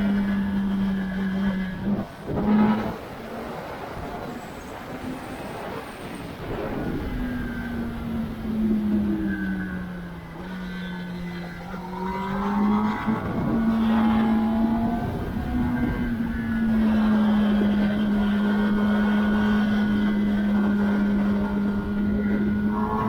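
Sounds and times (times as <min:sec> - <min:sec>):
motorcycle engine revving: 0:00.0 - 0:03.3, 0:06.7 - 0:23.0.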